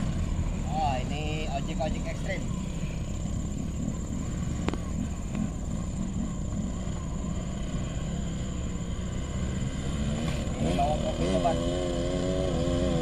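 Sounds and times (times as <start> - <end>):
distant truck engine rumble: 0.0 - 13.0
motorcycle engines running: 0.0 - 13.0.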